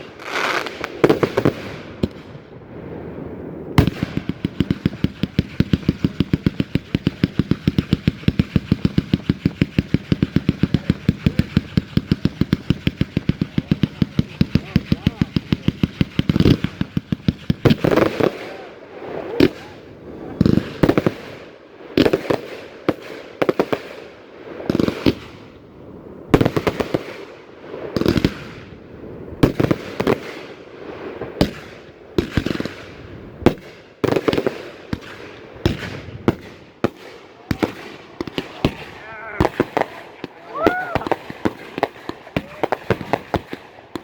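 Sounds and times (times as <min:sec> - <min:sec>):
fireworks banging: 0:00.0 - 0:25.6, 0:26.3 - 0:44.0.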